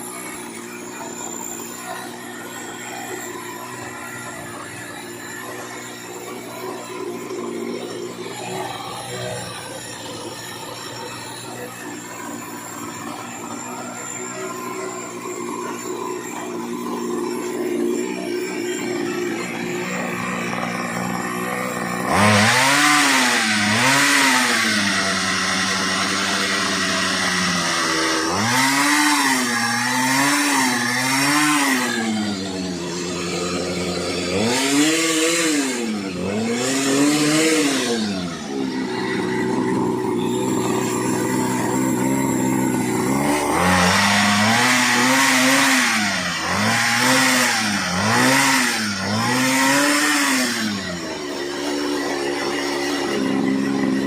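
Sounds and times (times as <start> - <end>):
small engine revving: 0.0 - 54.0.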